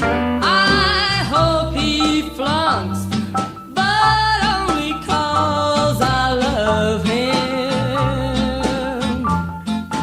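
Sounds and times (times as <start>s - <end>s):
rockabilly song with woman singing: 0.0s - 10.0s.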